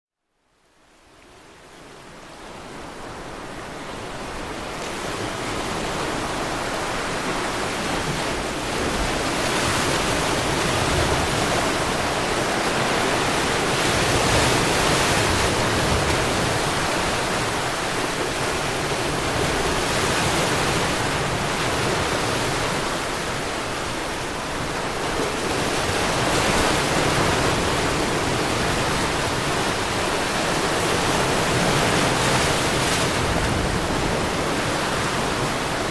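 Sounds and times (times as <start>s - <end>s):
sea waves rushing: 2.0s - 35.9s.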